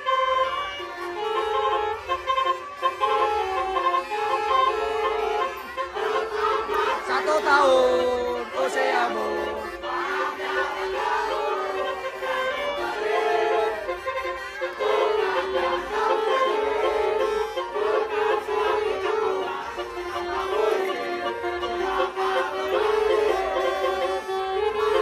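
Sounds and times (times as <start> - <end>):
held-note melody: 0.0 - 25.0.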